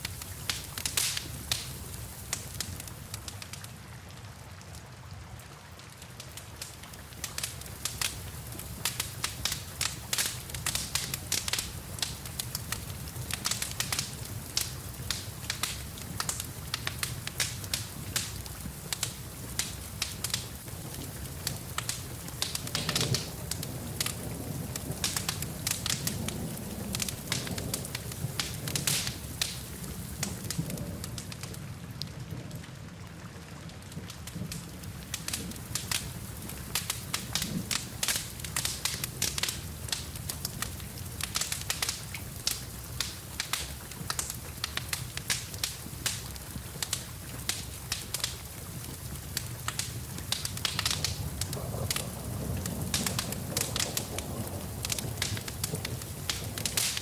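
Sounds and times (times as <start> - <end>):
rain rushing: 0.0 - 57.0
wood fire crackling and popping: 0.0 - 57.0.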